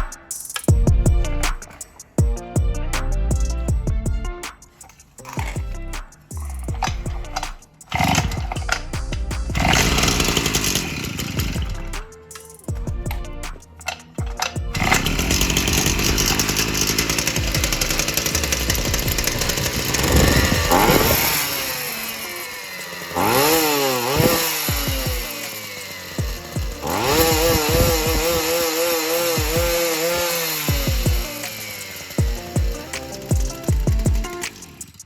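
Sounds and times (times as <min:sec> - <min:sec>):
brushcutter engine revving: 0:04.8 - 0:35.0.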